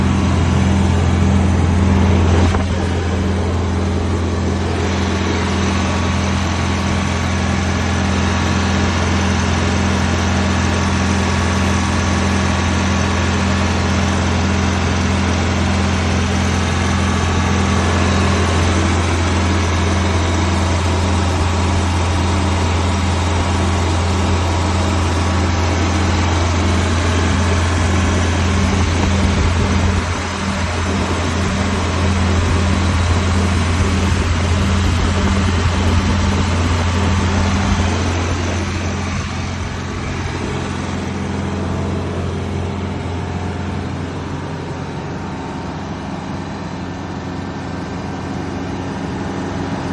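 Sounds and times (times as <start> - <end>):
diesel bus engine idling: 0.0 - 49.9.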